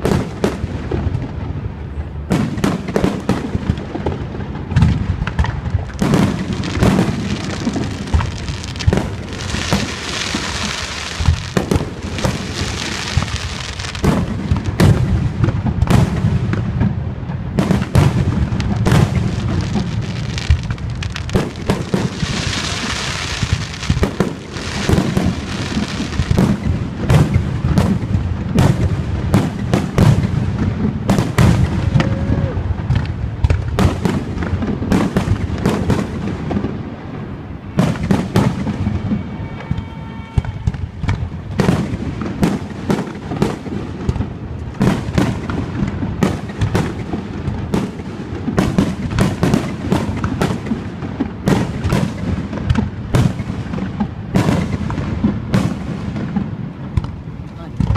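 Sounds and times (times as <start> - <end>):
fireworks booming: 0.0 - 57.9
fireworks crackling: 0.0 - 57.9.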